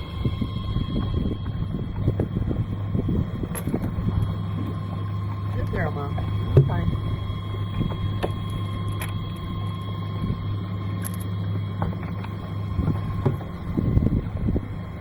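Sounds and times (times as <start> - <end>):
faint steady whine: 0.0 - 15.0
small boat motor humming: 0.0 - 15.0.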